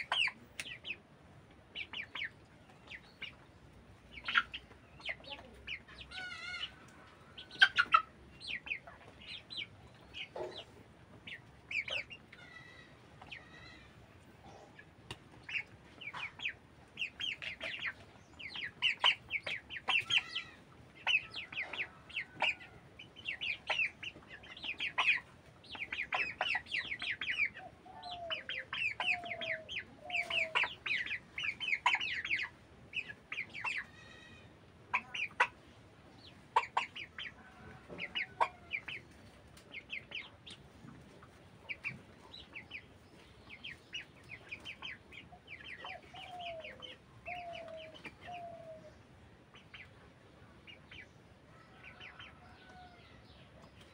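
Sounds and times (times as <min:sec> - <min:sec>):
chickens clucking and calling: 0:00.0 - 0:53.9.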